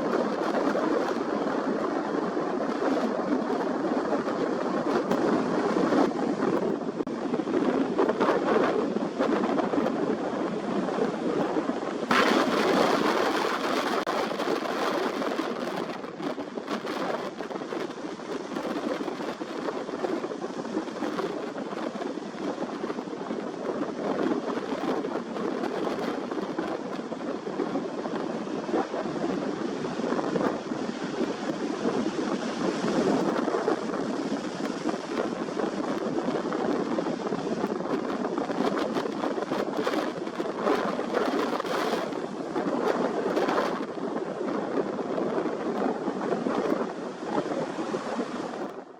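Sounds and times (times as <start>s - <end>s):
ocean surf: 0.0s - 48.9s
wind rushing: 0.0s - 48.9s.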